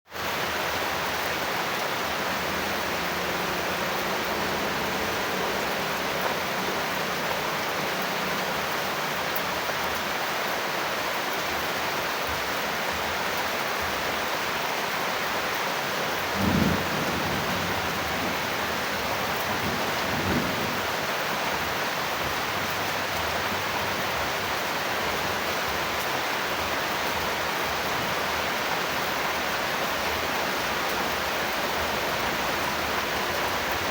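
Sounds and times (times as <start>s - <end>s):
rain hiss: 0.1s - 33.9s.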